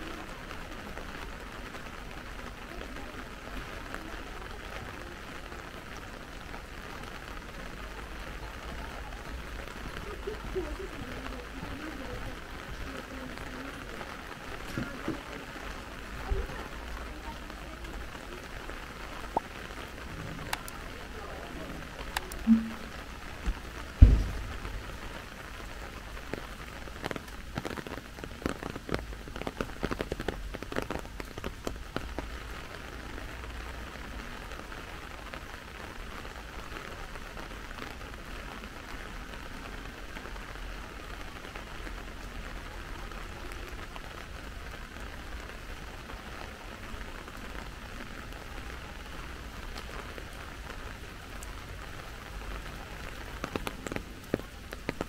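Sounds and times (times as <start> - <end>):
sharp ticks of rain: 0.0 - 55.0
steady rain falling: 0.0 - 55.0.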